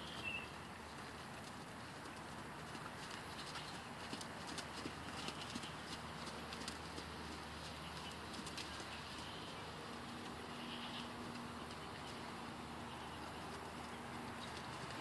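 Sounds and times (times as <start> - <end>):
horse hoofbeats on soft mud: 0.0 - 15.0.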